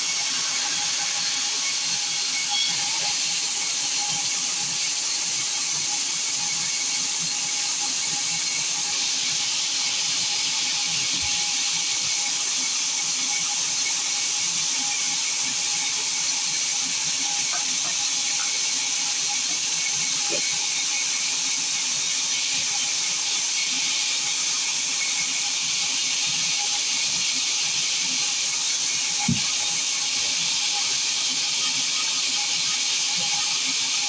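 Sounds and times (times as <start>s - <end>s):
sawmill saw running: 0.0s - 34.0s.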